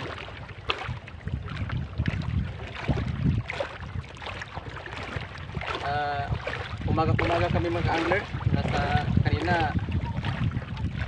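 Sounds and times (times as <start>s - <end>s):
gusty wind on microphone: 0.0s - 11.0s
water sloshing against boat: 0.0s - 11.0s.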